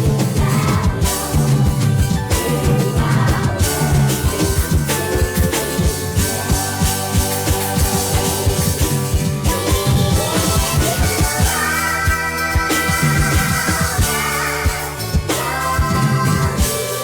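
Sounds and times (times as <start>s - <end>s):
drum-kit beat: 0.0s - 17.0s
guitar: 0.0s - 17.0s
rock music: 0.0s - 17.0s.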